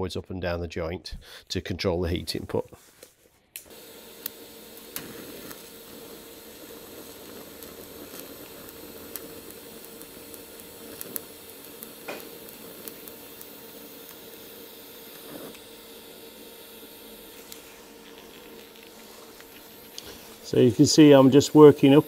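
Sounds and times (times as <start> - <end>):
constant hum: 3.5 - 22.0
welding arc hissing: 3.6 - 22.0.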